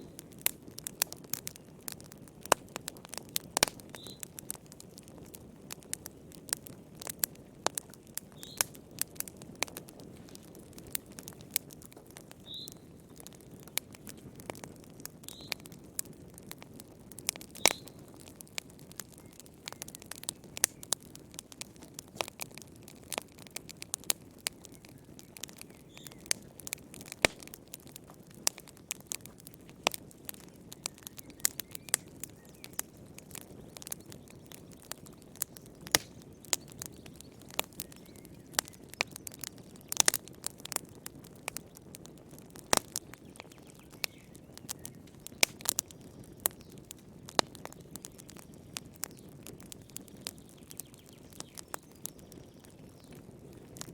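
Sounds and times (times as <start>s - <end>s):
soft hiss of burning: 0.0s - 53.9s
wood fire crackling and popping: 0.0s - 53.9s.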